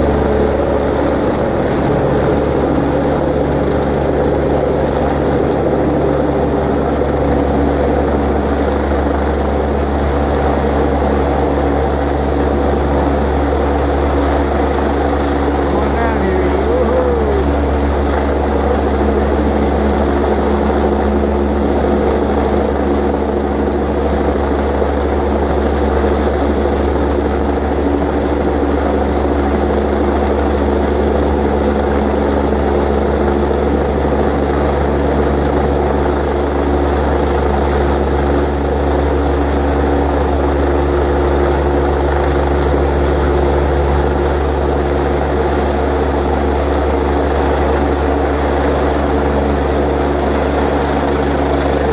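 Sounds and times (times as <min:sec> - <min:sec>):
helicopter flying low overhead: 0:00.0 - 0:51.9.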